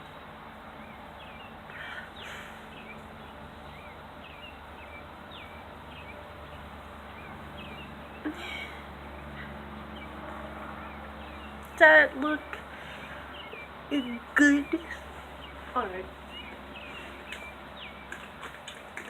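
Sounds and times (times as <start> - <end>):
road traffic hum: 0.0 - 19.0
small birds chirping: 0.0 - 19.0.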